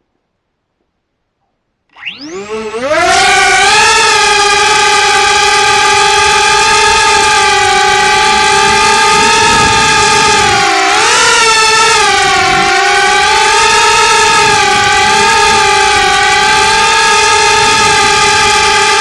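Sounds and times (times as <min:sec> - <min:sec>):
quadcopter motors whining: 0:01.9 - 0:19.0.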